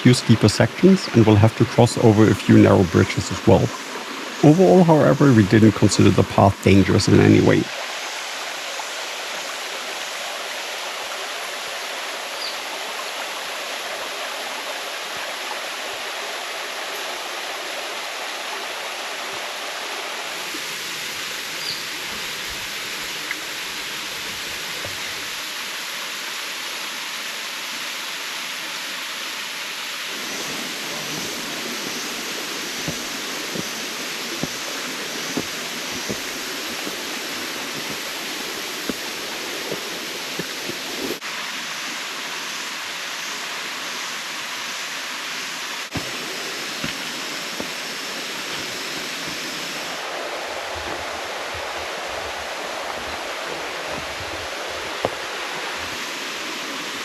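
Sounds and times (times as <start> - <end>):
river running over rocks: 0.0 - 57.0.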